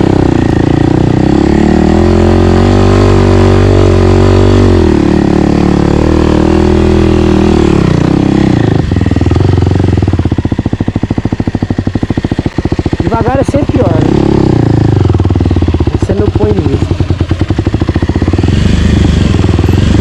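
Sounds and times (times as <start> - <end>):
dirt bike engine pulling uphill: 0.0 - 20.0.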